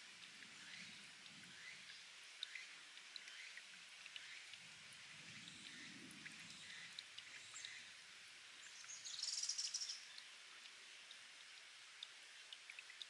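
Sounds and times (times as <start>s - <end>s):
spring water trickling: 0.0s - 13.0s.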